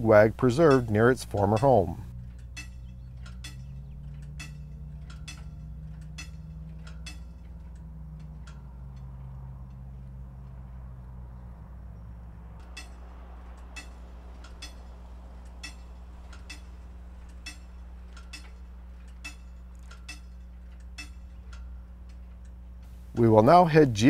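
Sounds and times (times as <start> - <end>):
crossing signal clicking: 0.0 - 24.0
steady low hum: 0.0 - 24.0.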